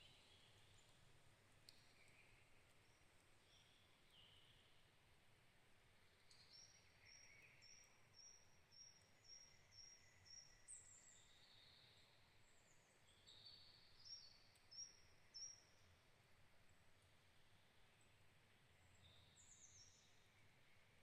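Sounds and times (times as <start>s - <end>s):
faint birdsong: 0.0s - 21.0s.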